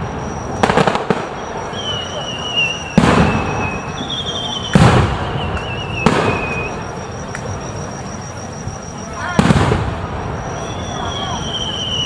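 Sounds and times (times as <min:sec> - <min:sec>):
fireworks bursting with bangs: 0:00.0 - 0:12.0
high firework whistle: 0:00.0 - 0:12.0.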